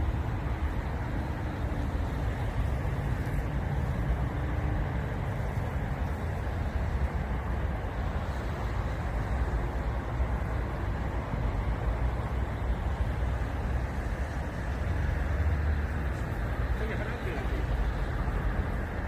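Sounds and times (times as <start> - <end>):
wind through dry reeds: 0.0 - 19.0.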